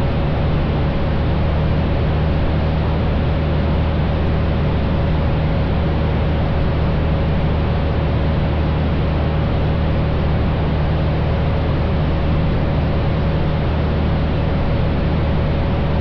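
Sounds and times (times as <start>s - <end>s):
airplane engine and propeller hum: 0.0s - 16.0s.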